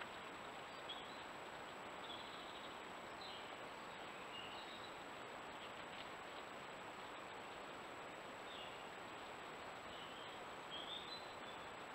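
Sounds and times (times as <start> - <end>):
faint microphone hiss: 0.0 - 11.9.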